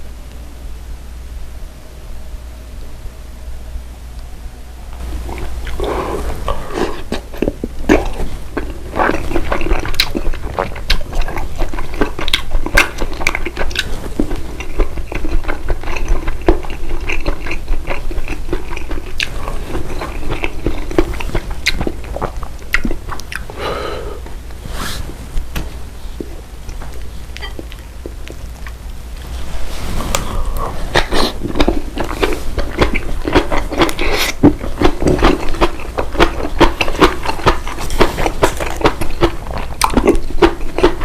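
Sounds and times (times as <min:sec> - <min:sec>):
steady low hum: 0:00.0 - 0:41.0
person chewing food: 0:05.0 - 0:24.6, 0:26.1 - 0:41.0.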